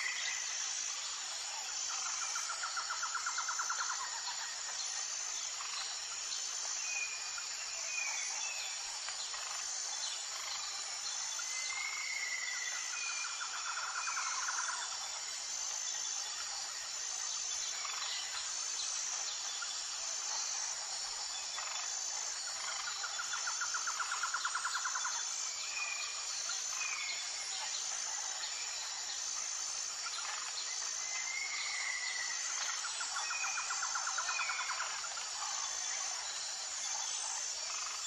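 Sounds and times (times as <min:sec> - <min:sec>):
insects buzzing high-pitched: 0:00.0 - 0:38.0
pulsing insect call: 0:00.0 - 0:38.0.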